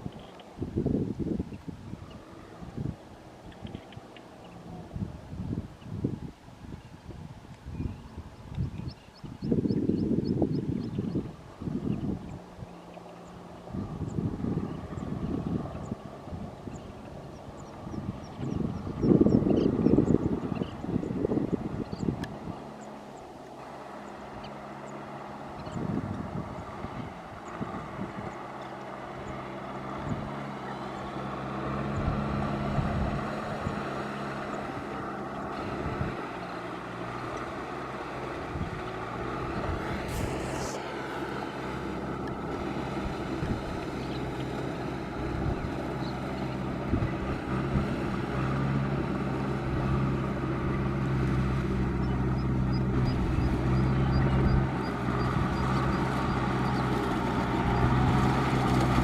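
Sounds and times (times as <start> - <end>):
tractor engine running under load: 9.4 - 59.0.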